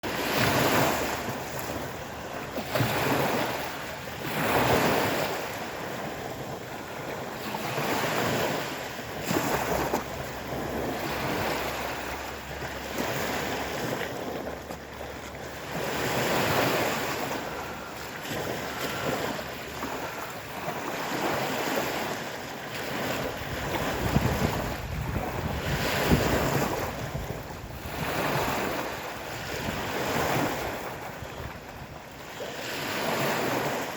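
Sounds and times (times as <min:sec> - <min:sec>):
waves breaking: 0:00.0 - 0:33.9
wind buffeting microphone: 0:00.0 - 0:33.9.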